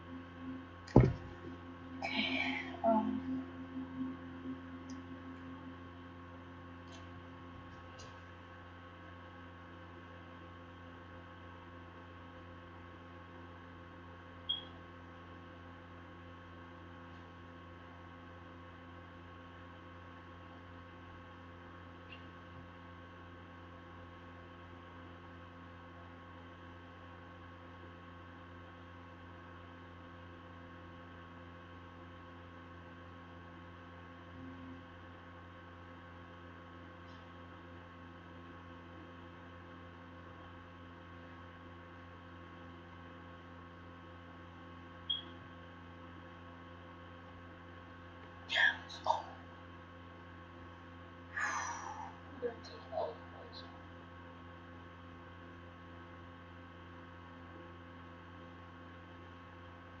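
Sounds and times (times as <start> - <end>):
low electrical hum: 0.0 - 60.0.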